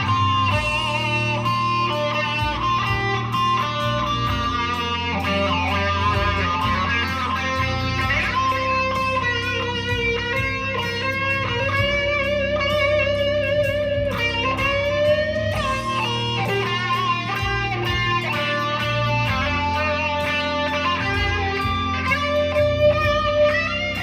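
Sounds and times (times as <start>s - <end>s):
electric guitar with wah: 0.0s - 24.0s.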